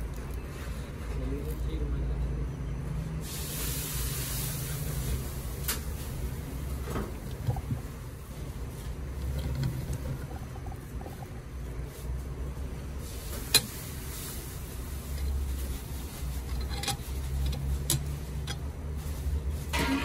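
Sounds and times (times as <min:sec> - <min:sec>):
busy dining room rumble: 0:00.0 - 0:20.0.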